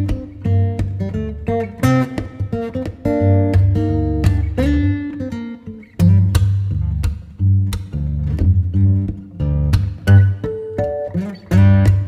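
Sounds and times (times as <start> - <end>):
plucked guitar notes: 0.0 - 12.0.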